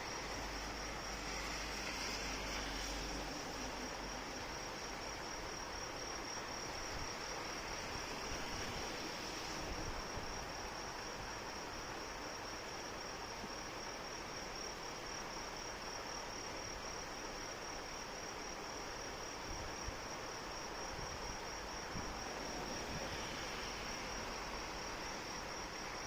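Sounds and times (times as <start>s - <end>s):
crickets trilling: 0.0s - 26.0s
steady rain: 0.0s - 26.0s.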